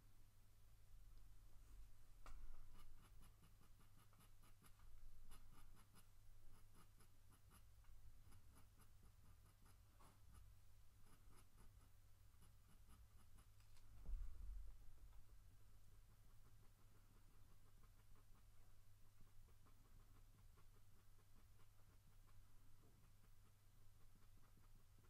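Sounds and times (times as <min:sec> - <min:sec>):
pencil scratching on paper: 0:02.2 - 0:25.0.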